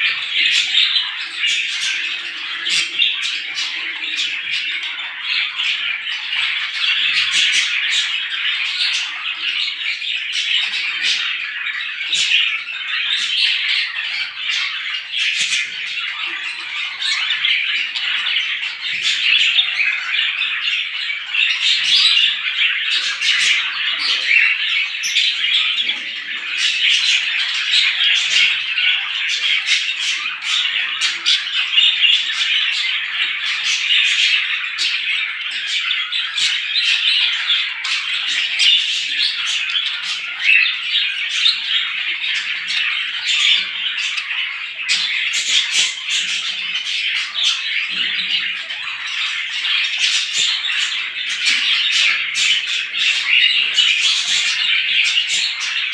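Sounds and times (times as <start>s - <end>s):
flock of birds chirping: 0.0s - 55.9s.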